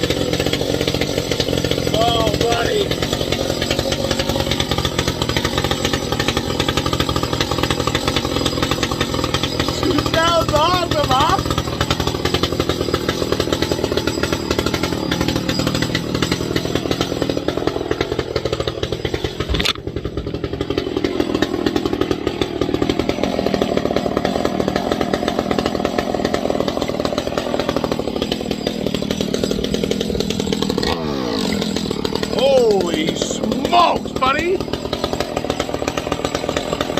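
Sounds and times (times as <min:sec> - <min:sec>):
chainsaw engine revving: 0:00.0 - 0:36.9.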